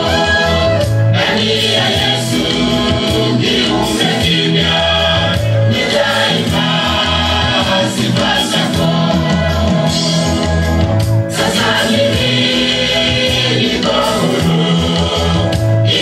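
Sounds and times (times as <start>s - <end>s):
gospel choir singing: 0.0s - 16.0s
rhythmic bass line: 0.0s - 16.0s.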